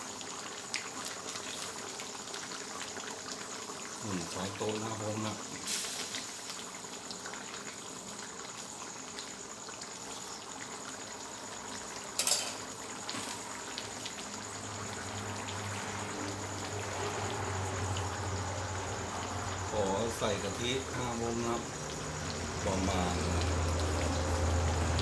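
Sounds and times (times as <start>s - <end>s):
curry bubbling in a wok: 0.0s - 25.0s.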